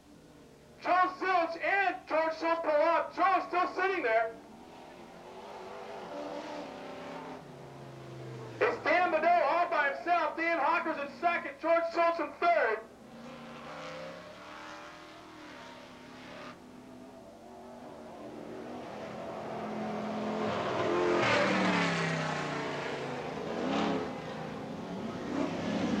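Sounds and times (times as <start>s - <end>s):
racing truck engines: 0.0s - 26.0s.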